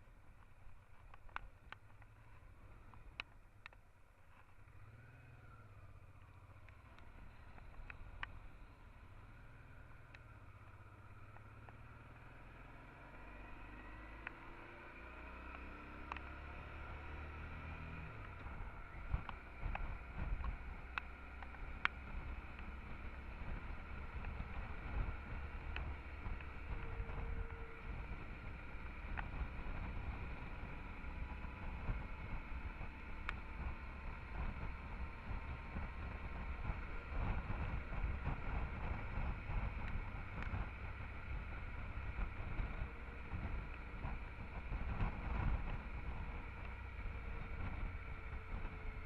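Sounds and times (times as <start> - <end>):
motorcycle engine accelerating: 0.0 - 49.0
wind and road noise: 0.0 - 49.0.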